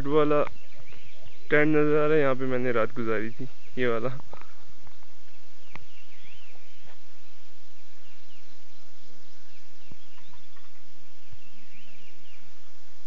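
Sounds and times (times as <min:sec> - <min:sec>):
birds chirping: 0:00.0 - 0:13.0
steady hiss: 0:00.0 - 0:13.0.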